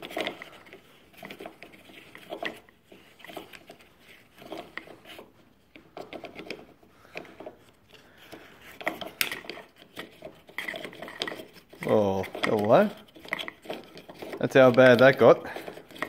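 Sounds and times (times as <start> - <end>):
plastic and metal parts clicking: 0.0 - 16.0.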